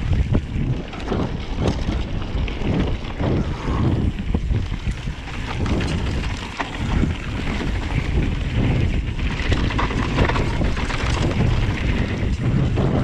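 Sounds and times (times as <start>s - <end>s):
bike rattles and knocks: 0.0s - 13.0s
bike tyre noise: 0.0s - 13.0s
wind buffeting microphone: 0.0s - 13.0s.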